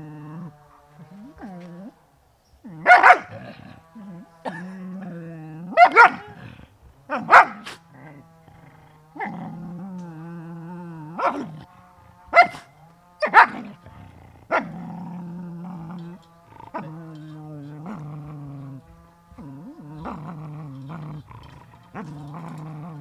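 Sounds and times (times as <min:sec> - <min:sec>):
dog growling: 0:00.0 - 0:23.0
dog snarling and barking: 0:02.7 - 0:23.0.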